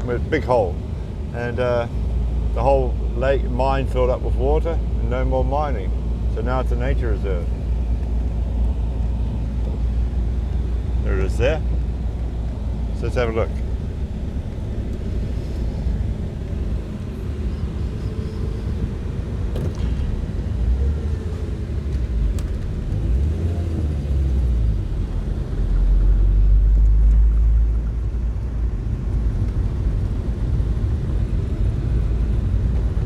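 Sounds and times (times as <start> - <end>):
road noise: 0.0 - 33.0
vehicle engine rumble: 0.0 - 33.0.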